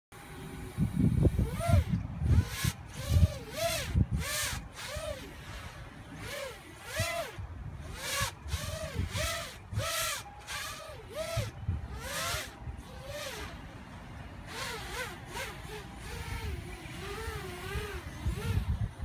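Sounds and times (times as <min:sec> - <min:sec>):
quadcopter motors whining: 0:00.2 - 0:19.0.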